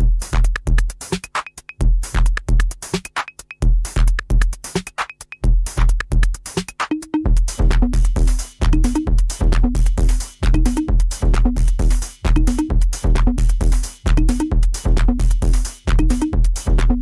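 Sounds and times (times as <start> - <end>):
electronic dance music beat: 0.0 - 17.0.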